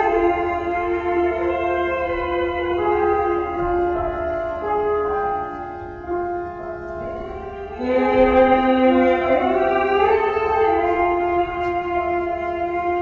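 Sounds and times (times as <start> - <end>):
instrumental music of held chords: 0.0 - 13.0.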